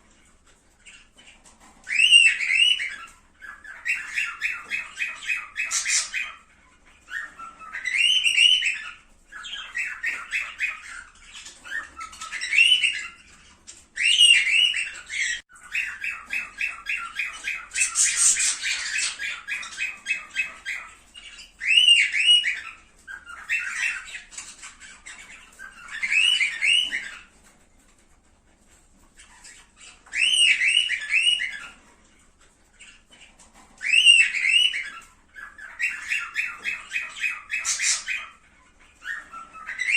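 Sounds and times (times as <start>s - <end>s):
cockatiels chattering chirps: 0.0s - 39.9s.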